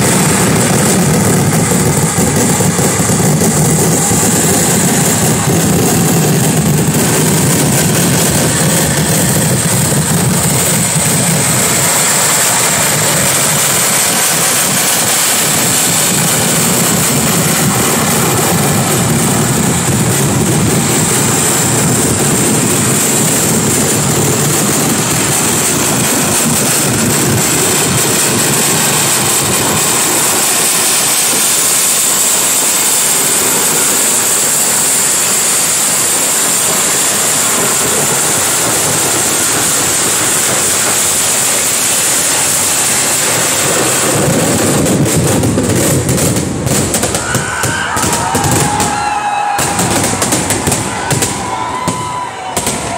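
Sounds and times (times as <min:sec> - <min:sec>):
firecracker explosions barrage: 0:00.0 - 0:52.9.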